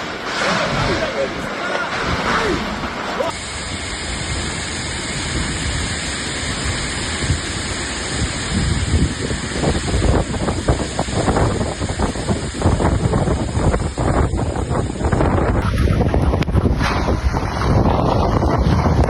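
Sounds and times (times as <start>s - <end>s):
heavy storm rain and wind: 0.0s - 19.0s
wind gusts buffeting microphone: 0.0s - 19.0s.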